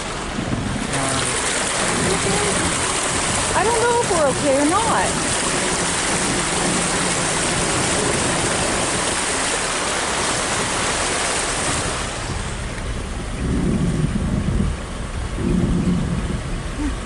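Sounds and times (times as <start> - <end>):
floodwater rushing against car: 0.0 - 17.0
low rumbling water surge: 0.0 - 17.0.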